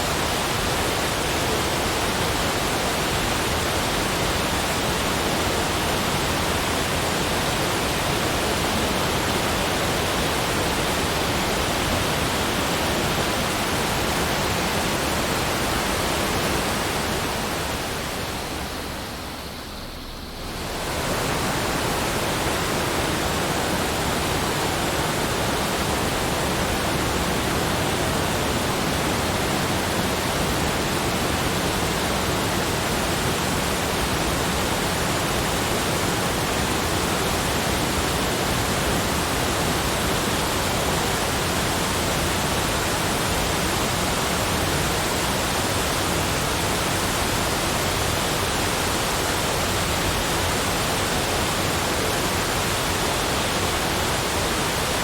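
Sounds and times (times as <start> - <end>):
steady broadband rushing noise: 0.0 - 55.0.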